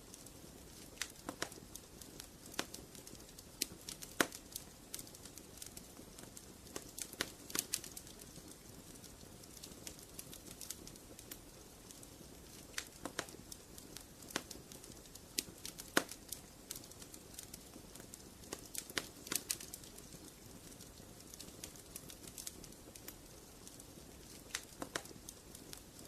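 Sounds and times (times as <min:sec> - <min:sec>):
low steady fire hiss: 0:00.0 - 0:26.0
wood fire crackling and popping: 0:00.0 - 0:26.0.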